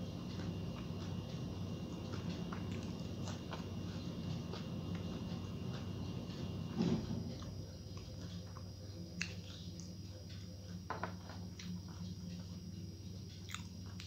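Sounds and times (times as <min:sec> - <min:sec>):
soft chewing: 0:00.0 - 0:14.0
steady low hum: 0:00.0 - 0:14.0.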